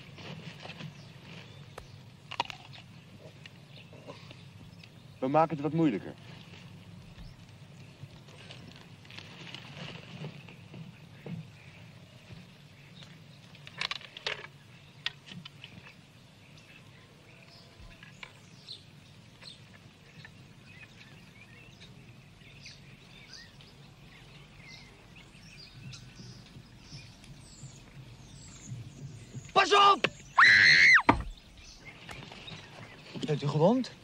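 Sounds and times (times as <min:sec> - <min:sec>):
birds chirping: 0:00.0 - 0:34.0
outdoor ambience: 0:00.0 - 0:34.0.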